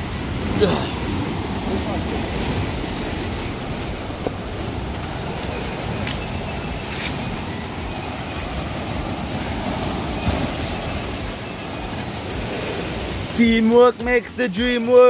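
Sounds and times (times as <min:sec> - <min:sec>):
wind buffeting microphone: 0:00.0 - 0:14.7
sea surf on rocky shore: 0:00.0 - 0:15.0.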